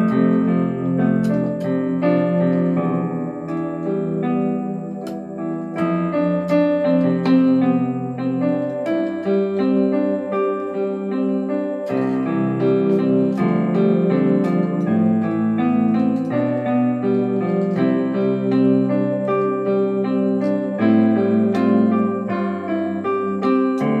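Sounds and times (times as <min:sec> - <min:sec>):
piano playing slow chords: 0:00.0 - 0:24.0.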